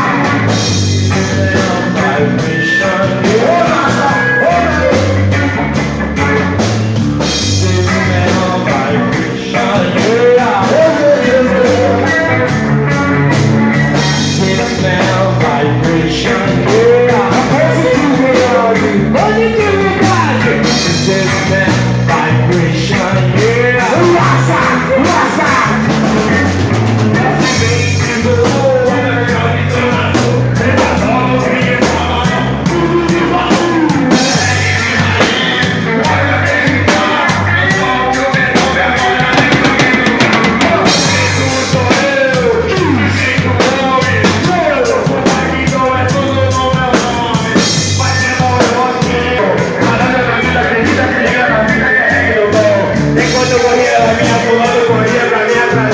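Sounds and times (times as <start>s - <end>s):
distorted guitars: 0.0s - 55.9s
heavy rock band playing: 0.0s - 55.9s
person singing: 0.0s - 55.9s
pounding drum kit: 0.0s - 55.9s.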